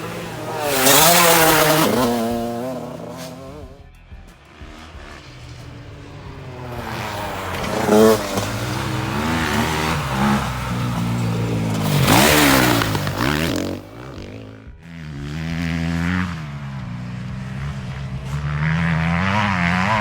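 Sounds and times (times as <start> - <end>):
motocross motorcycle engine revving: 0.0 - 20.0.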